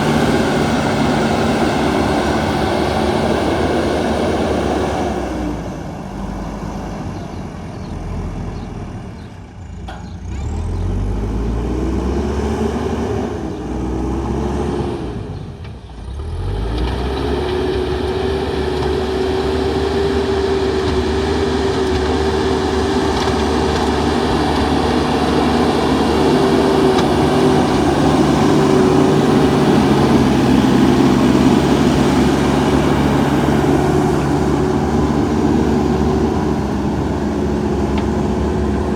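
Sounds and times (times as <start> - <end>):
diesel engine of backhoe working: 0.0 - 38.9.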